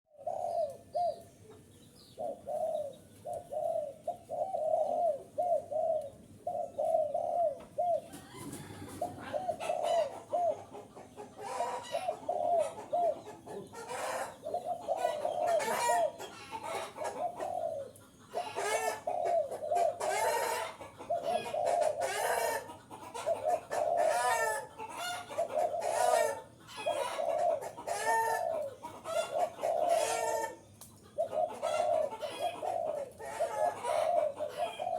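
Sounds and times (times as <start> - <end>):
doves cooing: 0.1 - 34.9.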